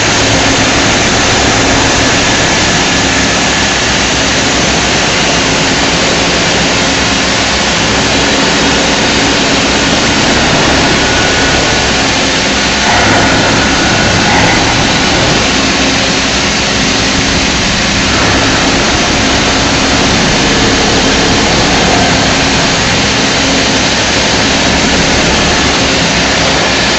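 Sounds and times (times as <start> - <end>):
loud steady hiss: 0.0 - 26.9
milling spindle cutting steel: 0.0 - 26.9.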